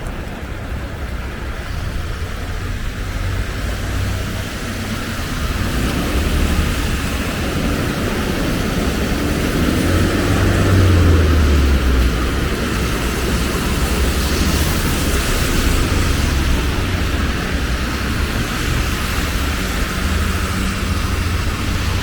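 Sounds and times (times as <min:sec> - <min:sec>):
low engine rumble: 0:00.0 - 0:22.0
steady rain falling: 0:00.0 - 0:22.0.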